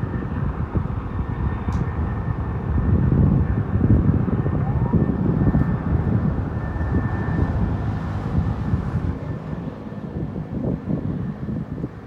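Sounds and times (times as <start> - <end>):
helicopter rotor chop: 0.0 - 12.0
helicopter turbine whine: 0.0 - 12.0.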